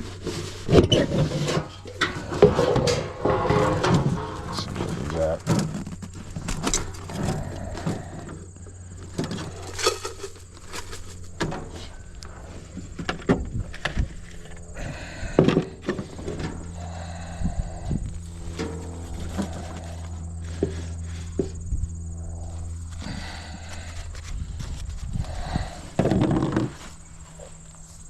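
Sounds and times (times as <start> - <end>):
low hum of honey bees: 0.0 - 28.0.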